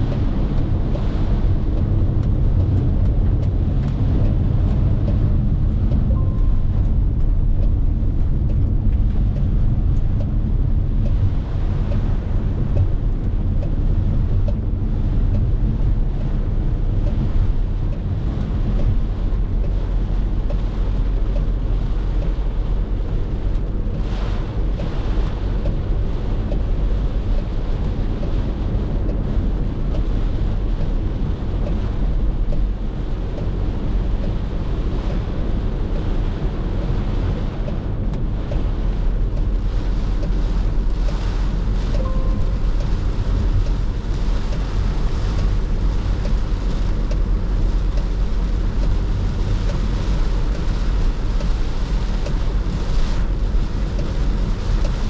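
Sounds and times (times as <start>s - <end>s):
car driving in heavy rain: 0.0s - 55.0s.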